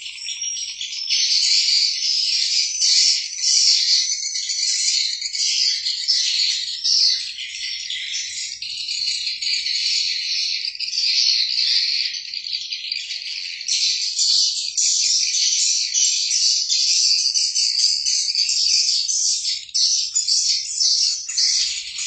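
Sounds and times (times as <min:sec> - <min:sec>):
small birds chirping and trilling: 0:00.0 - 0:22.0.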